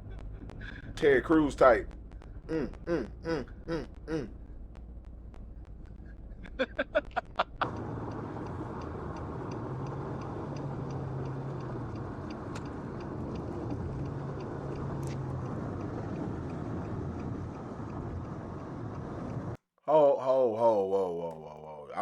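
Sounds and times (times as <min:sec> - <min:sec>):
faint ticking: 0:00.0 - 0:19.6
vehicle running with road noise: 0:00.0 - 0:19.6.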